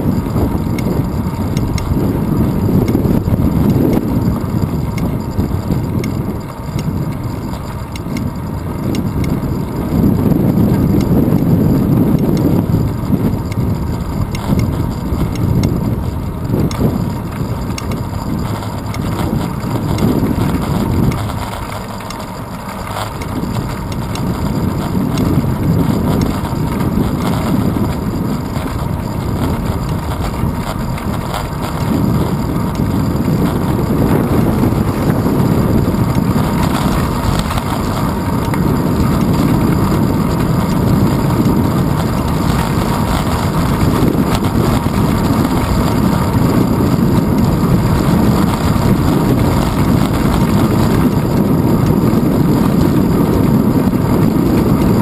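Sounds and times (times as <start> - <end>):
road rumble: 0.0 - 55.0
wind buffeting: 0.0 - 55.0.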